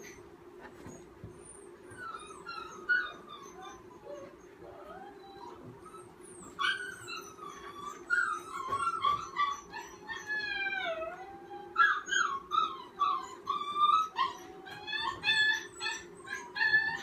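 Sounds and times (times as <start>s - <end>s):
puppy whining and crying: 0.0s - 17.0s.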